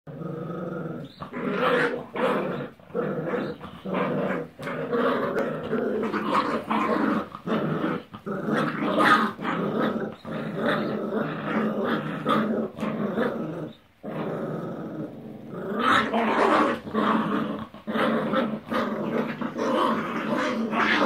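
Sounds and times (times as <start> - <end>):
puppies growling in play: 0.1 - 21.0.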